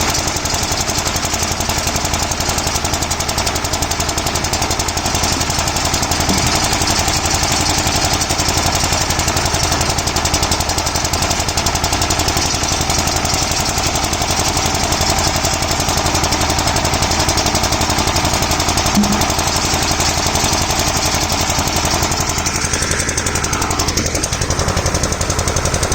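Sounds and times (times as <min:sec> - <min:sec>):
harvesting machine engine knocking: 0:00.0 - 0:25.9.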